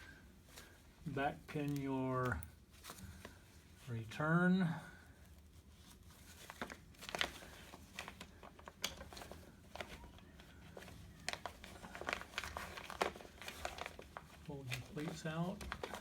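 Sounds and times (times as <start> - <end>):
fabric rustling: 0.0 - 16.0.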